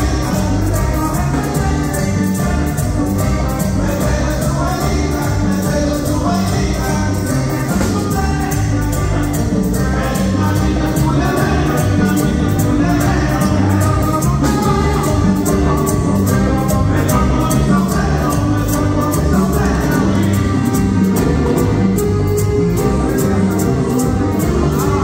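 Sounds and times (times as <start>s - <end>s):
latin dance band playing: 0.0s - 25.0s
person singing: 0.0s - 25.0s.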